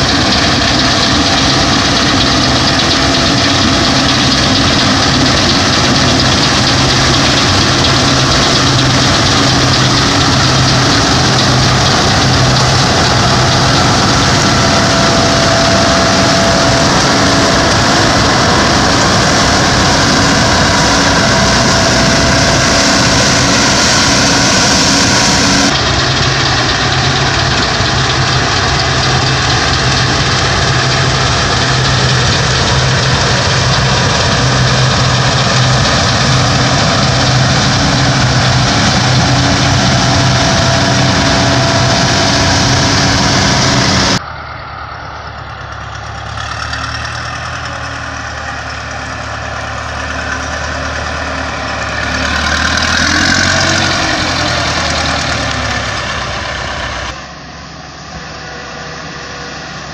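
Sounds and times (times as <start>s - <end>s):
combine harvester working: 0.0s - 59.9s.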